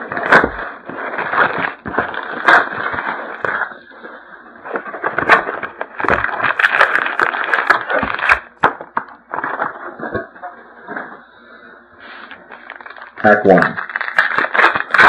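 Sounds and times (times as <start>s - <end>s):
plastic wrap crinkling and tearing: 0.0s - 11.4s, 12.0s - 15.0s.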